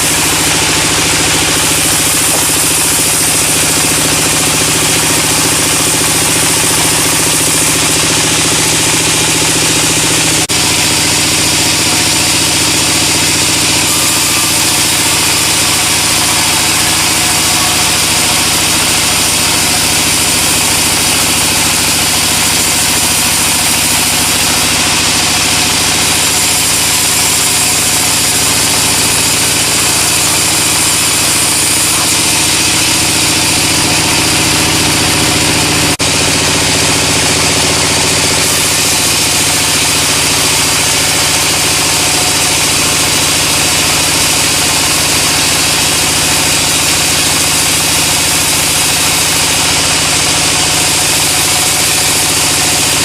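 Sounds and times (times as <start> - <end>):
sawmill saw running: 0.0 - 53.0.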